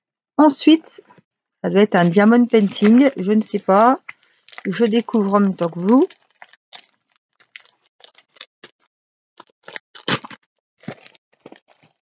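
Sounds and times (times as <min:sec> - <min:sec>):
plastic packaging crinkling: 0:02.0 - 0:12.0.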